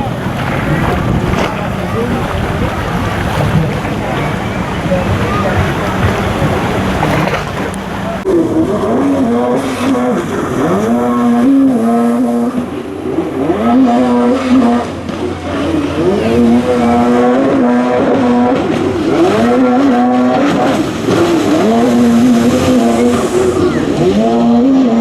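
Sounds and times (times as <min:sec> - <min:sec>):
jet ski engines revving: 0:00.0 - 0:25.0.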